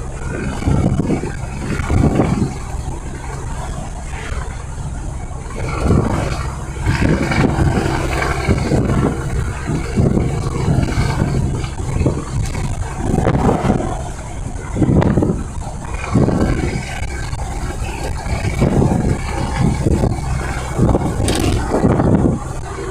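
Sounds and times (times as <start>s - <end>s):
truck diesel engine rumbling: 0.0s - 22.9s.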